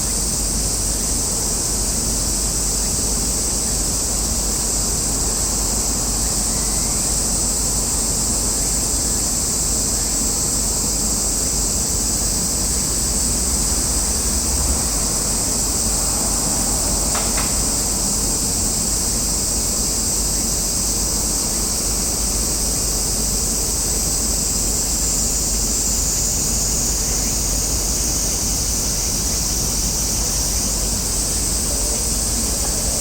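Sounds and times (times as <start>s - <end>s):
high-pitched hiss: 0.0s - 33.0s.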